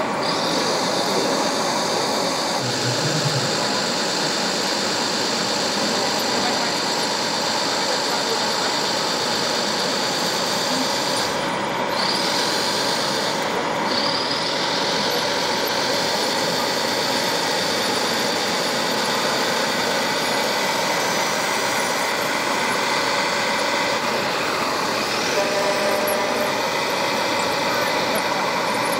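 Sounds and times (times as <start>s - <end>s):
electric motors and hydraulics whine: 0.0s - 28.9s
motors speeding up whine: 0.0s - 28.9s.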